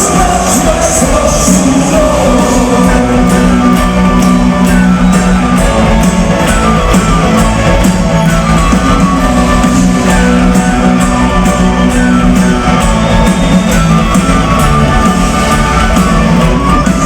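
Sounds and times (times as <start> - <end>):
metal band playing live: 0.0 - 17.0.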